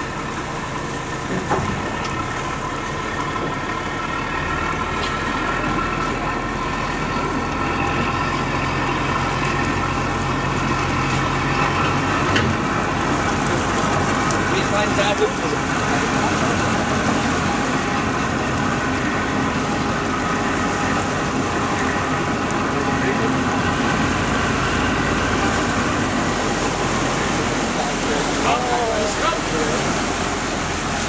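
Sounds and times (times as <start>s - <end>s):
deeper engine note: 0.0s - 31.0s
diesel engine running: 0.0s - 31.0s.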